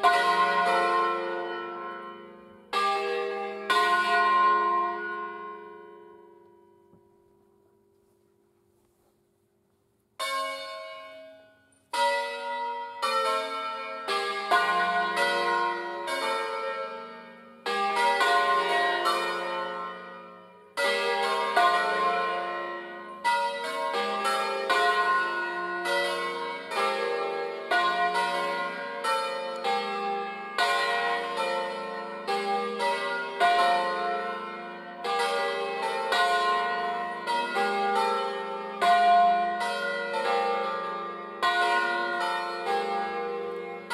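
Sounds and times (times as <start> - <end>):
church bells pealing: 0.0 - 7.6, 10.2 - 43.9.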